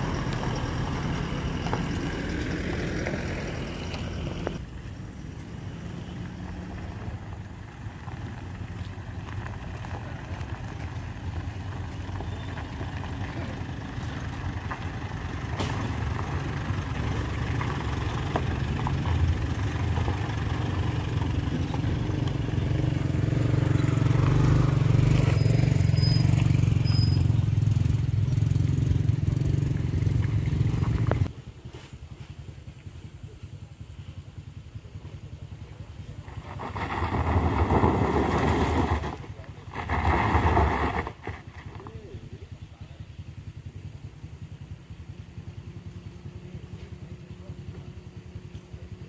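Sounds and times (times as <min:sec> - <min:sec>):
truck engine pulling uphill: 0:00.0 - 0:49.0.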